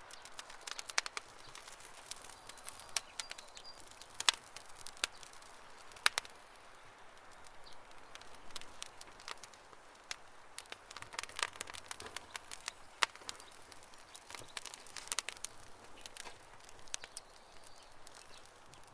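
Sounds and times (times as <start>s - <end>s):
campfire crackling and popping: 0.0s - 18.9s
hiss of burning: 0.0s - 18.9s.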